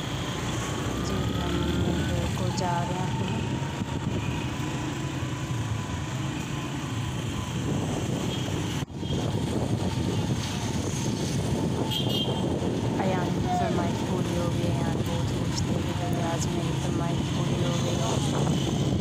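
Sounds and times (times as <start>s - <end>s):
road noise: 0.0s - 19.0s
wind rushing over microphone: 0.0s - 19.0s.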